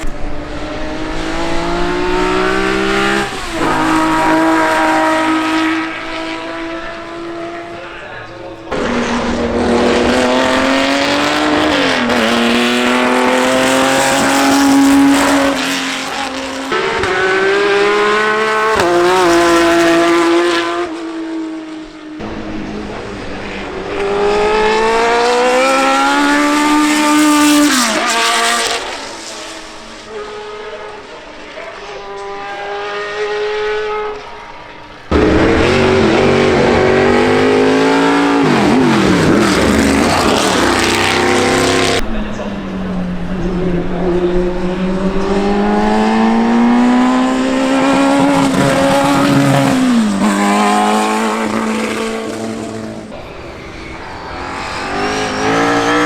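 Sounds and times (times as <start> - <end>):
car engines accelerating hard: 0.0 - 56.0.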